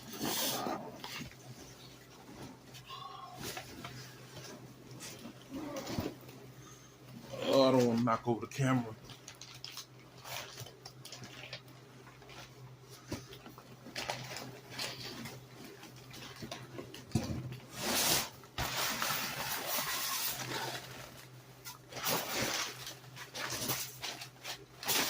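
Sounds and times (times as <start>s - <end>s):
cardboard and packing rustling: 0.0s - 6.5s, 7.1s - 25.0s.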